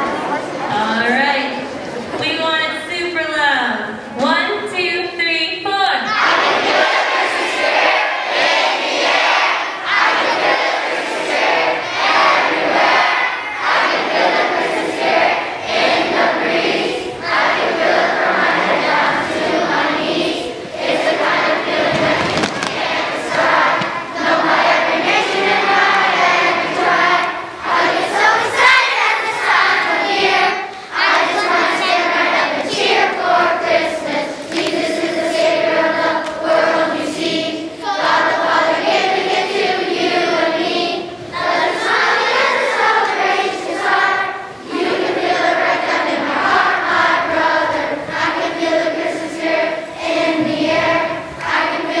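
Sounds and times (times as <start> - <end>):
children singing together: 6.1 - 52.0.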